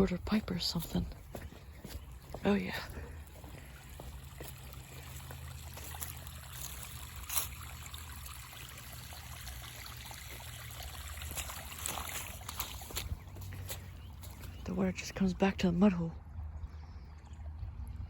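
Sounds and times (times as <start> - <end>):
water running and trickling: 0.0 - 15.2.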